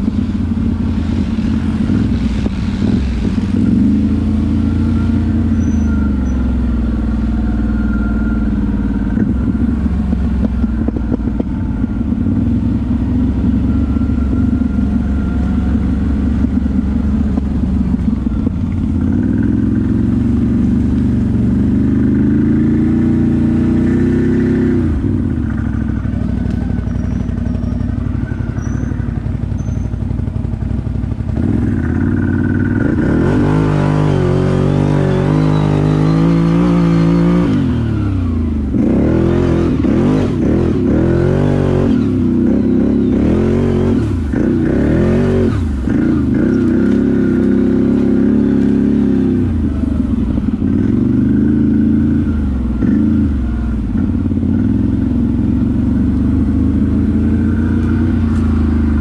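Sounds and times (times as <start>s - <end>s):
atv engine running under load: 0.0s - 59.0s.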